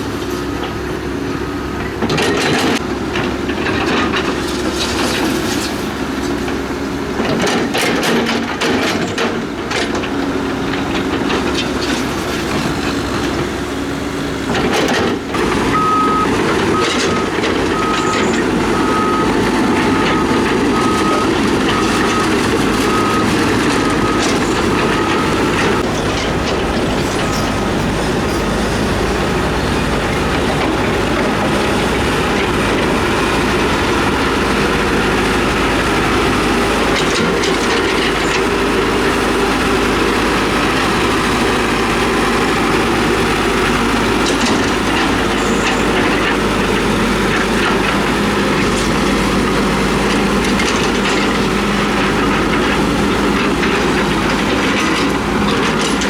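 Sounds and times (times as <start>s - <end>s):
diesel engine rumble: 0.0s - 56.0s
steel crawler tracks clanking: 0.0s - 56.0s.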